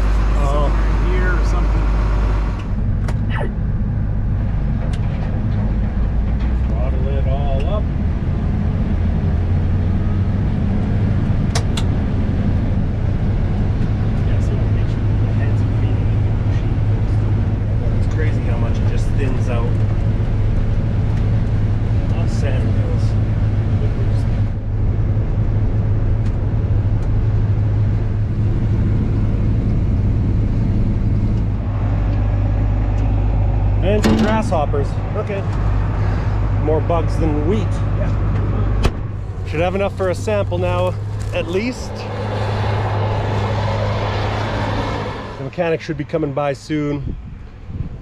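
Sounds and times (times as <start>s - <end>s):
combine harvester engine drone: 0.0s - 48.0s.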